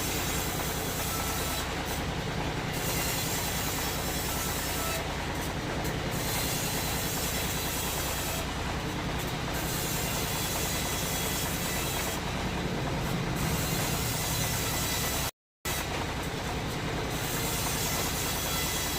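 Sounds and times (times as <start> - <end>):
sawmill machinery rumbling: 0.0 - 18.9.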